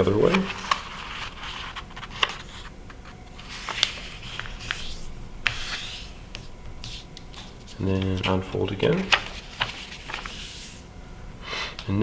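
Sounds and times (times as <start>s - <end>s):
paper being folded and creased: 0.0s - 10.8s.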